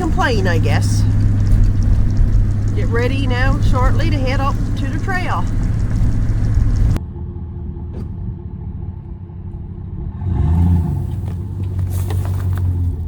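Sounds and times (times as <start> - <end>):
vehicle engine rumbling and revving: 0.0 - 13.0.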